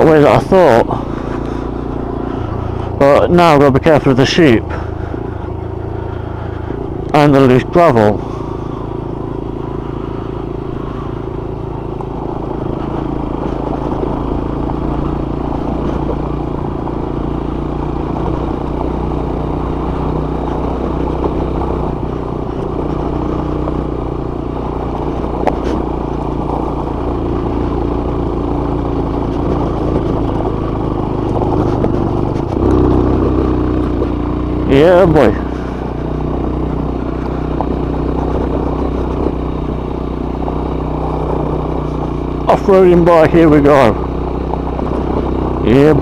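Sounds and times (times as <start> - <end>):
motorcycle engine running: 0.0 - 46.0
road and wind noise: 0.0 - 46.0.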